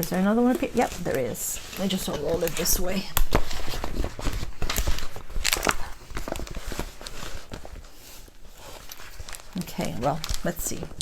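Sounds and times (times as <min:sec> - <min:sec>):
canvas rustling and crinkling: 0:00.0 - 0:11.0.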